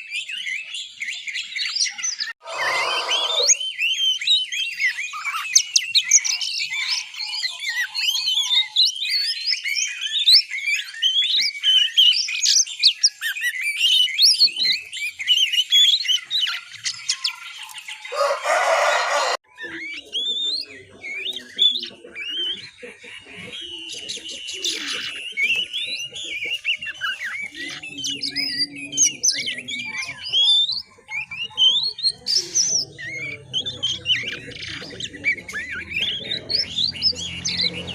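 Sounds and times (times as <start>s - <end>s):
young bird twittering: 0.0s - 37.9s.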